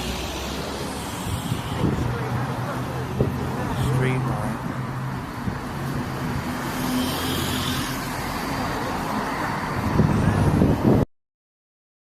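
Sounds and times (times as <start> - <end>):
road traffic passing: 0.0 - 11.1.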